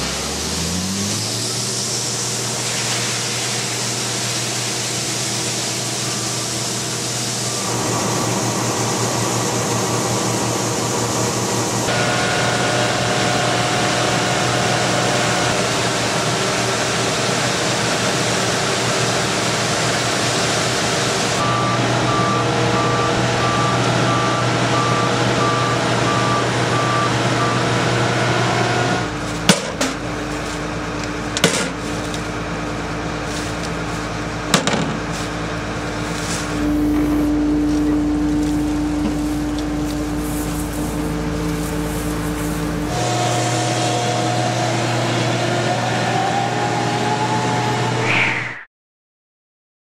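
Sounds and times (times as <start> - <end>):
combine harvester drone: 0.0 - 48.7.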